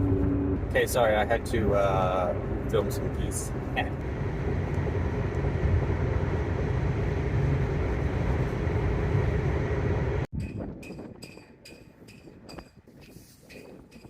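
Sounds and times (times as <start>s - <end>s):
road and wind noise inside car: 0.0s - 11.4s.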